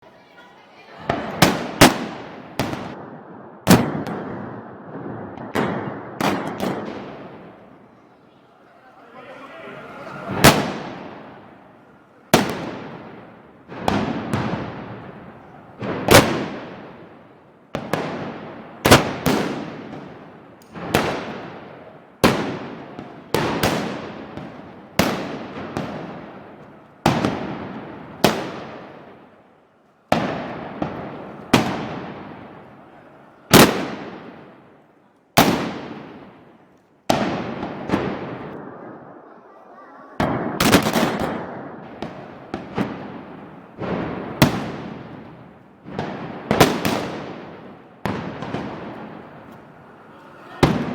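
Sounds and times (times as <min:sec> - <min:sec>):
black-powder bangs echoing: 0:01.0 - 0:29.4, 0:30.1 - 0:50.9.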